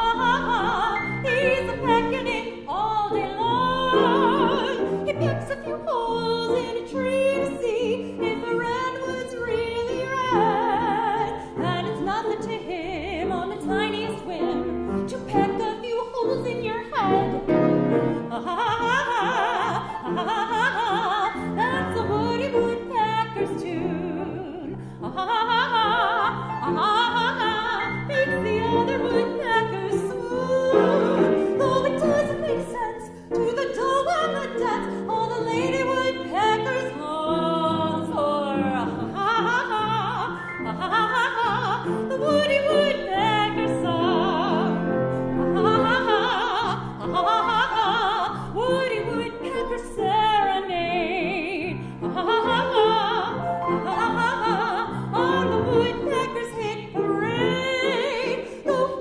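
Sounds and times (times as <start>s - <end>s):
piano accompaniment: 0.0s - 59.0s
woman singing with vibrato: 0.0s - 59.0s.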